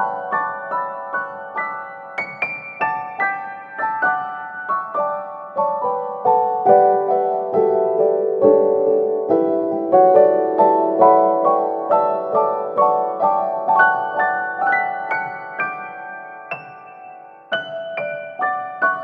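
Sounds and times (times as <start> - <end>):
gentle solo piano melody: 0.0 - 19.0.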